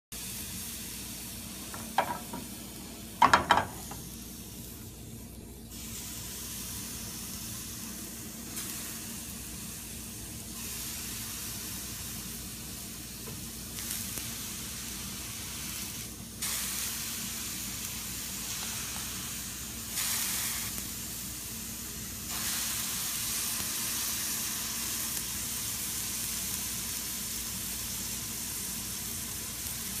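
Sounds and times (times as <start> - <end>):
water droplets sizzling on a pan: 0.2 - 30.0.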